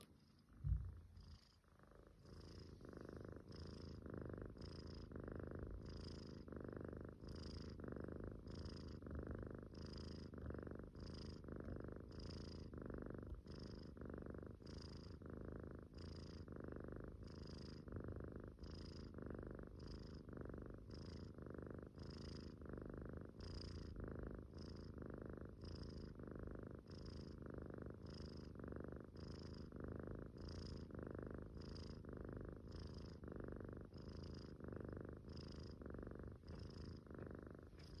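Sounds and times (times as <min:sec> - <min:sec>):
kitten snoring softly: 0:00.0 - 0:38.0.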